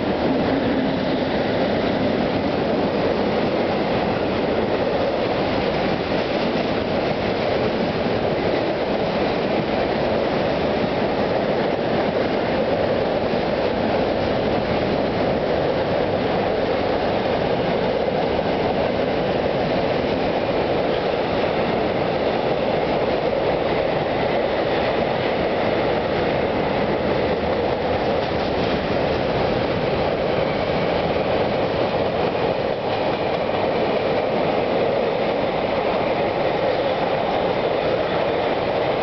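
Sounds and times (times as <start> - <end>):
freight train wheels rolling: 0.0 - 39.0.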